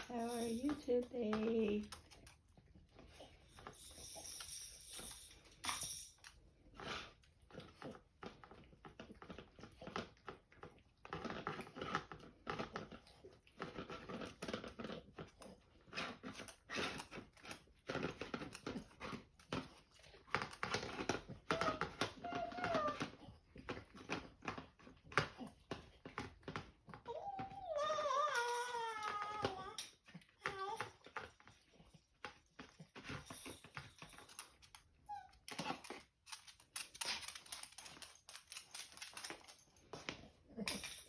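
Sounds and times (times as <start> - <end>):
pet crunching and chewing food: 0.0 - 41.0.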